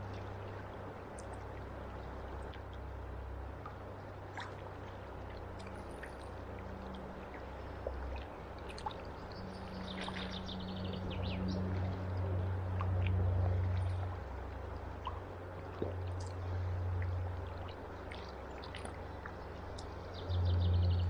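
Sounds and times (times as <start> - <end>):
river water flowing and lapping: 0.0 - 21.0.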